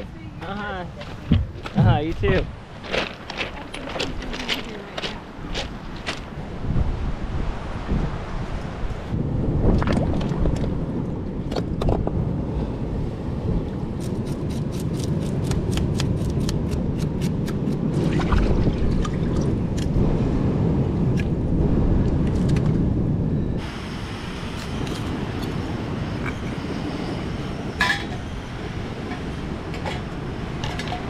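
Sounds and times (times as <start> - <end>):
wind buffeting the microphone: 0.0 - 31.0.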